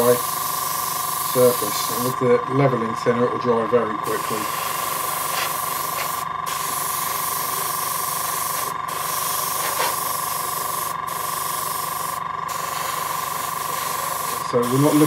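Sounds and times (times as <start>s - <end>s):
airbrush spraying hiss: 0.0s - 2.2s, 4.0s - 15.0s
compressor humming and pulsing: 0.0s - 15.0s.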